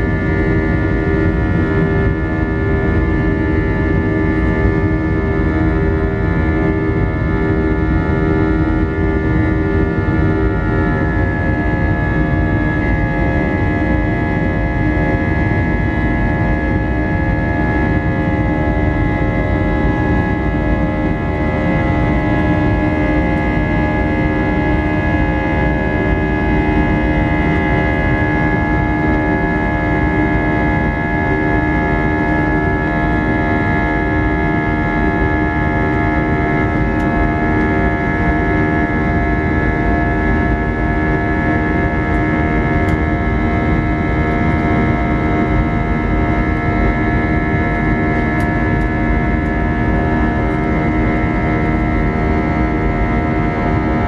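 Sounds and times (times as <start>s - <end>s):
jet engine rumble in cabin: 0.0s - 54.0s
steady whining tones: 0.0s - 54.0s.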